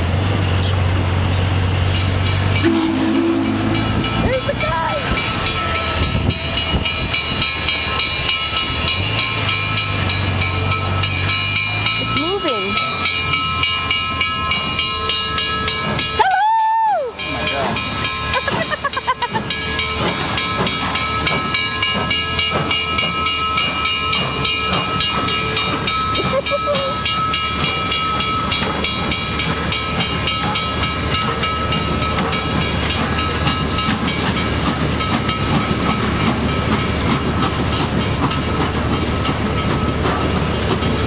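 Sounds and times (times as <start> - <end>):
train clattering on rails: 0.0 - 41.0.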